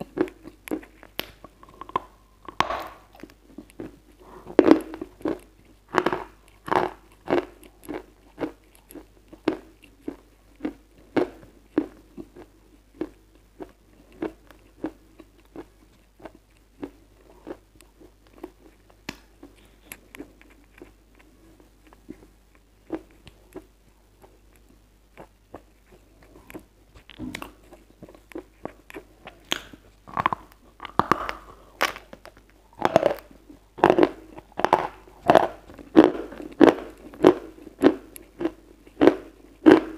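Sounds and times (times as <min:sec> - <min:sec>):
chewing chalk crunches: 0:00.0 - 0:39.9.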